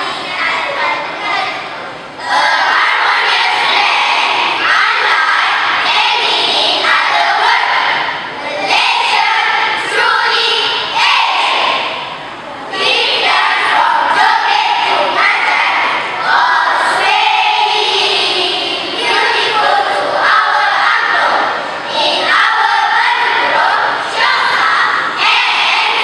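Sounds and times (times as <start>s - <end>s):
children chanting in unison: 0.0s - 26.0s.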